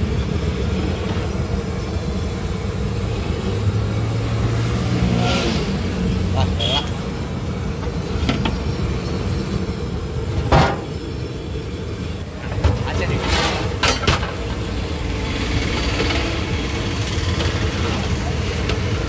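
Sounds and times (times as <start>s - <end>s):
pot boiling rumble: 0.0s - 19.0s.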